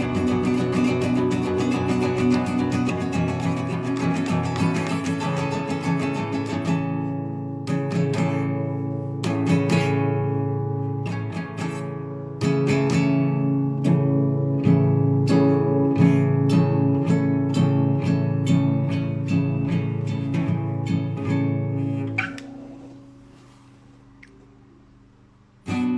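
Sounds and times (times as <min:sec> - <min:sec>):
classical guitar playing: 0:00.0 - 0:25.9.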